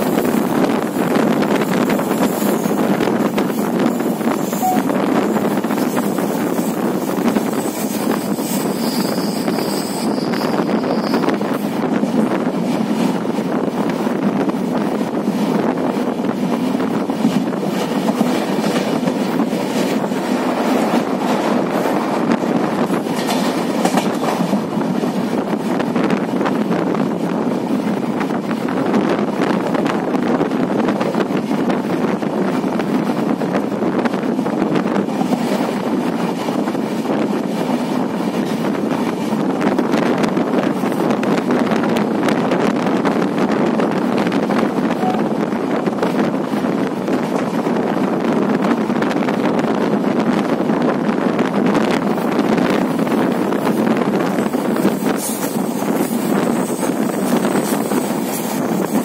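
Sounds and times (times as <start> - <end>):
train wheels rolling on rails: 0.0 - 59.0
wind on microphone: 0.0 - 59.0.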